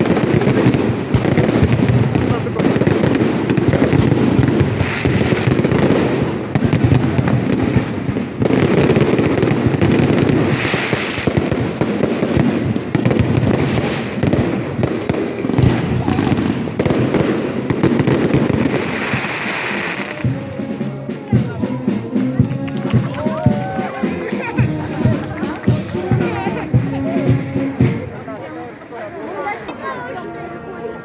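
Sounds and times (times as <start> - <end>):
fireworks bangs and crackles: 0.0 - 28.8.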